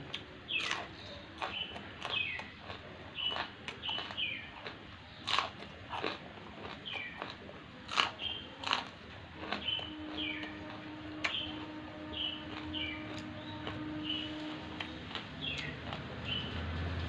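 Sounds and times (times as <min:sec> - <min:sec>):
crunchy chewing of green beans: 0:00.0 - 0:16.8.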